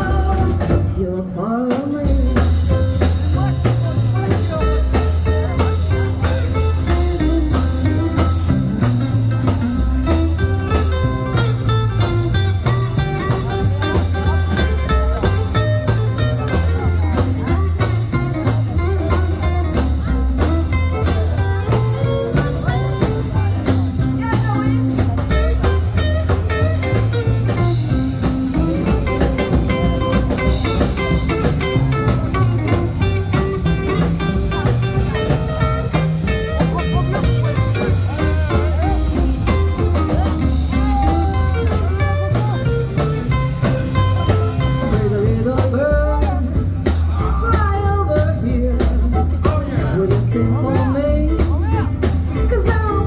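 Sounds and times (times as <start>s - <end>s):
bass line: 0.0s - 53.0s
steady drums: 0.0s - 53.0s.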